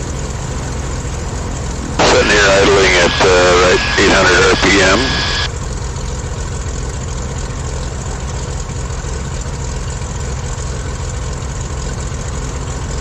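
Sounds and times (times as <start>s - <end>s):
propeller plane engines idling: 0.0s - 13.0s.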